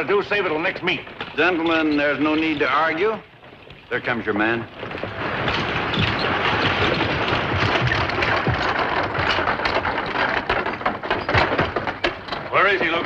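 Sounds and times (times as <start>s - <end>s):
horse hoofbeats on dirt: 0.0s - 13.0s.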